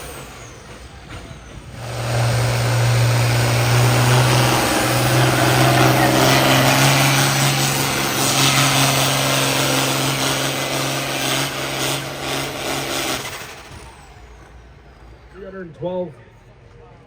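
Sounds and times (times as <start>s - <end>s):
truck engine at high revs: 0.0s - 15.4s.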